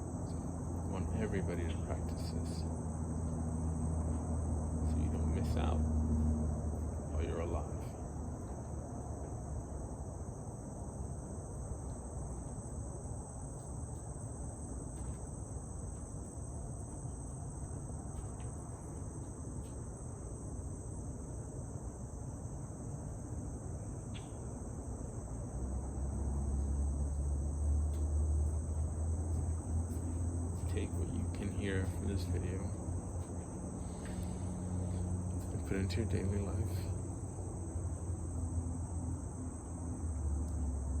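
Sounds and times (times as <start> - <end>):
highway traffic rumble: 0.0 - 41.0
insects chorus: 0.0 - 41.0.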